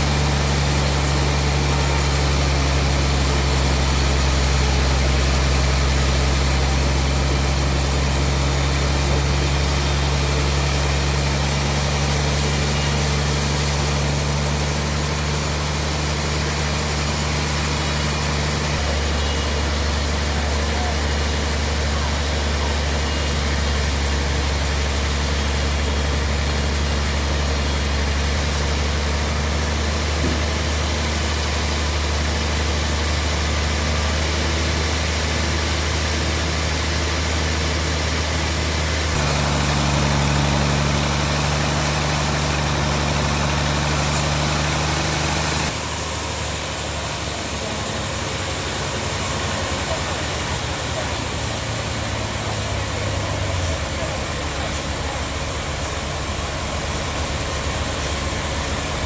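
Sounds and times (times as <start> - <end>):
bandsaw machinery humming: 0.0 - 59.0.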